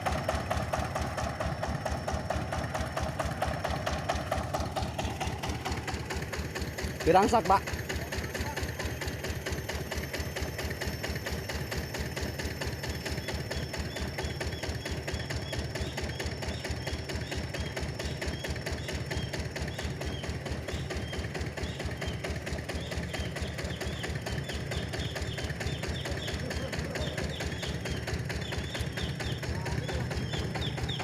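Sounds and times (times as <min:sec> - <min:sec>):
diesel engine knocking: 0:00.0 - 0:31.0.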